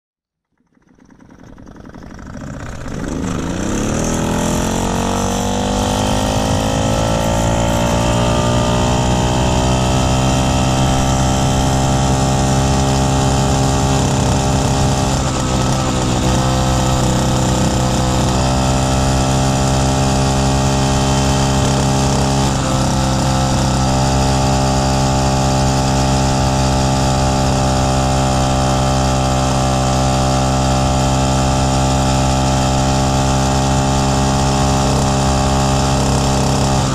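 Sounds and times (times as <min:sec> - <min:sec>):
moped two-stroke engine running: 0:00.5 - 0:36.9.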